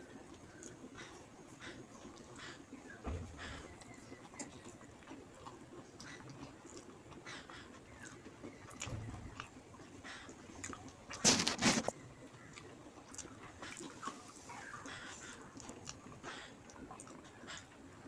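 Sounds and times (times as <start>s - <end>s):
chewing and lip smacks: 0.1s - 17.9s.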